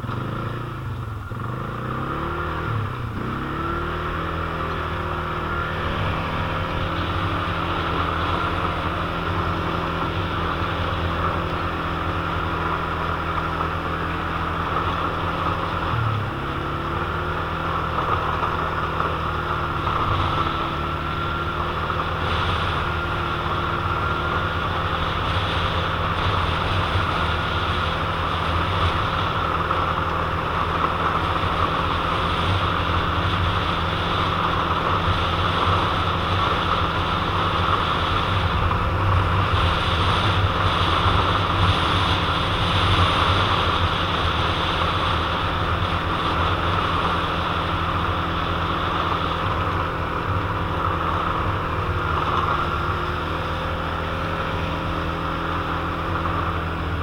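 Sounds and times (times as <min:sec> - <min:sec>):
quad engine running: 0:00.0 - 0:57.0.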